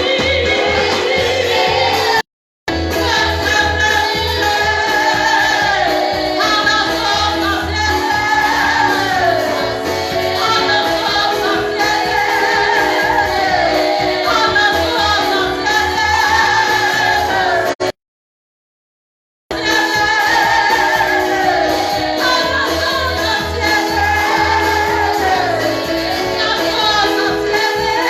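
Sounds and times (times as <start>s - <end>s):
gospel choir singing: 0.0s - 17.9s, 19.5s - 28.0s.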